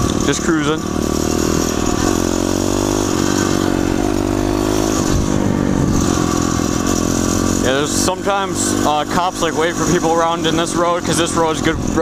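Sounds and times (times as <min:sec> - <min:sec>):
pit bike engine cruising: 0:00.0 - 0:12.0.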